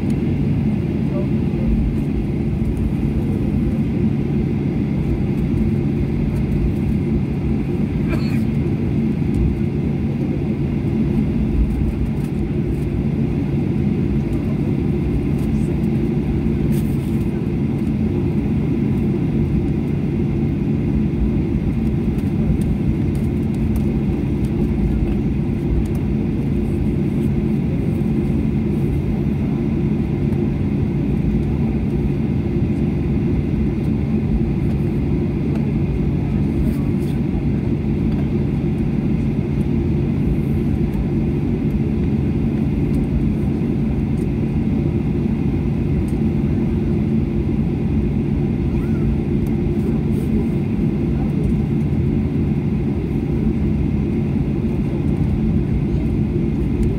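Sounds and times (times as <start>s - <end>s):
airliner engine hum in cabin: 0.0s - 56.9s.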